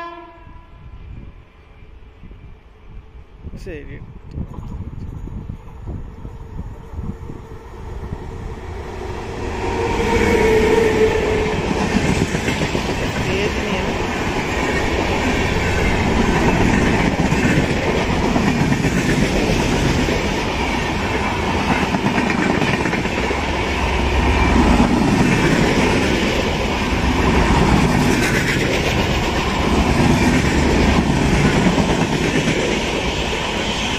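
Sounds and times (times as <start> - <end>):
train wheels rumbling on rails: 1.0 - 33.9.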